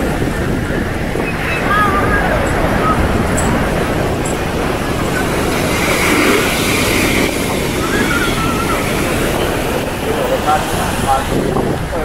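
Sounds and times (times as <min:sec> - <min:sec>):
faint distant voices: 0:00.0 - 0:12.0
steady low rumble: 0:00.0 - 0:12.0
surf washing up sand: 0:00.0 - 0:12.0.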